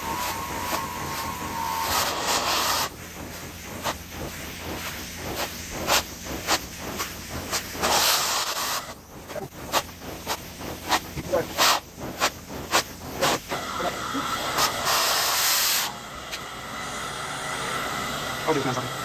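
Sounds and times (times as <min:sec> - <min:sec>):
vacuum hose sucking air: 0:00.0 - 0:19.0.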